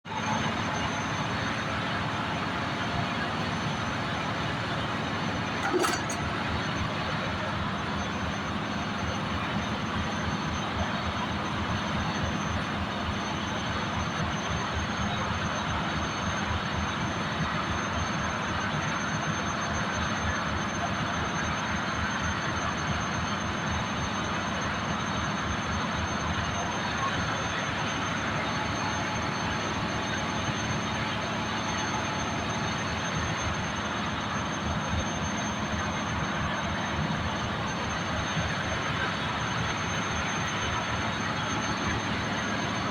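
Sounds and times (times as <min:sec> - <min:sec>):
engine room machinery rumble: 0:00.0 - 0:42.9.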